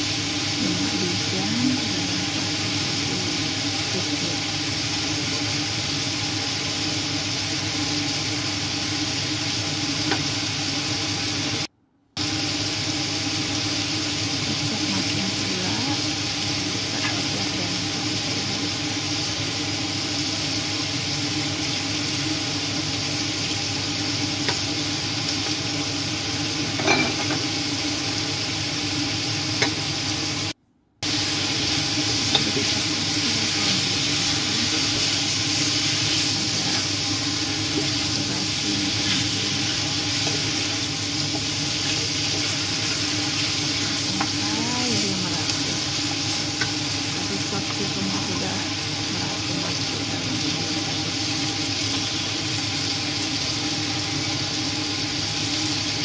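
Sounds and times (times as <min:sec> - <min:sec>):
steady hum: 0:00.0 - 0:55.6
chicken sizzling in a wok: 0:00.0 - 0:56.0.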